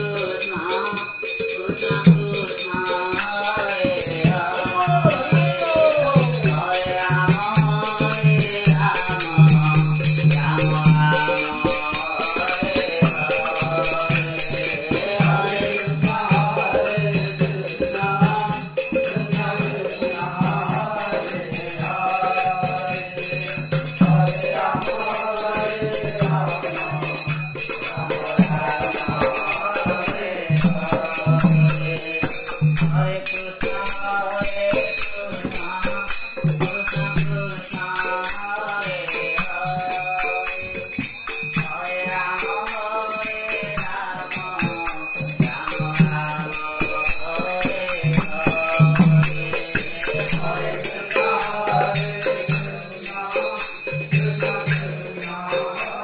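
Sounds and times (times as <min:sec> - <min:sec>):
men chanting: 0:00.0 - 0:41.0, 0:41.6 - 0:56.0
small cymbals jingling: 0:00.0 - 0:56.0.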